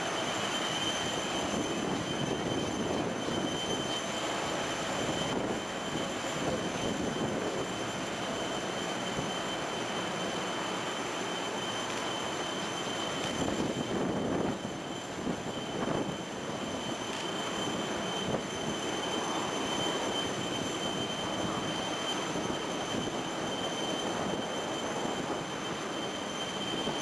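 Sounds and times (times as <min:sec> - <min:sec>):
jet turbine whine: 0:00.0 - 0:27.0.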